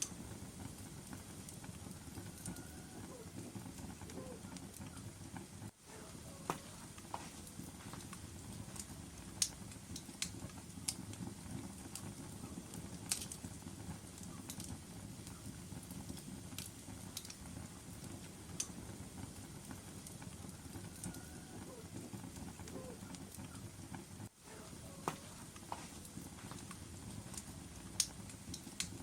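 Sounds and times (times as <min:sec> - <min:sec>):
burning logs popping and snapping: 0:00.0 - 0:29.0
low rush of flames: 0:00.0 - 0:29.0.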